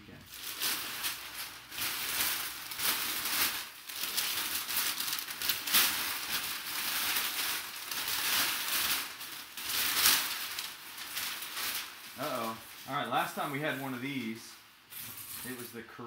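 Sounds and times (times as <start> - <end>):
packing paper rustling and crinkling: 0.0 - 16.0.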